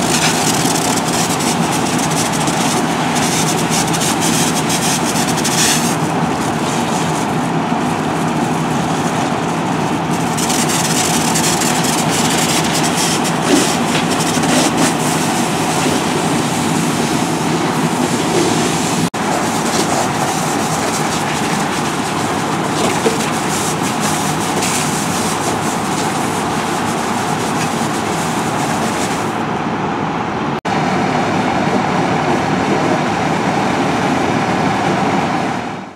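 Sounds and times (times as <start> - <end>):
water spraying from hose nozzle: 0.0 - 29.3
diesel engine and pump droning: 0.0 - 35.9.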